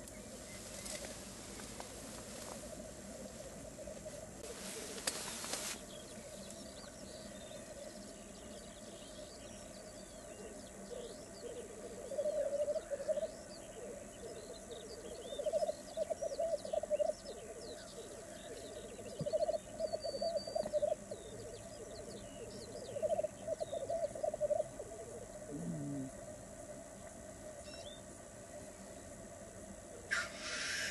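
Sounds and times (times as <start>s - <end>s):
grouse bubbling display song: 0.0s - 28.2s.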